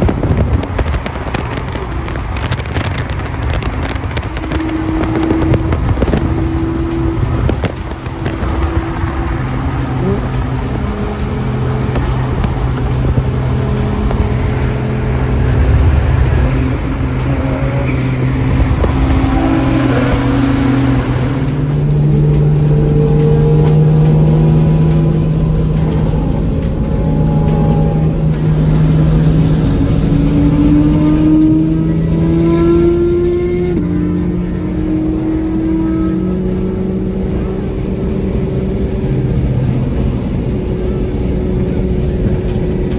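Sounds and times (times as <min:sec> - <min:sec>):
car engine droning: 0:00.0 - 0:42.9
road noise: 0:00.0 - 0:42.9.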